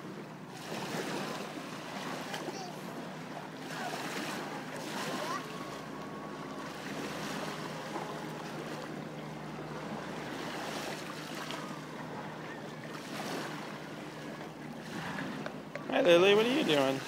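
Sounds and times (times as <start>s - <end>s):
waves lapping at shore: 0.0s - 17.0s.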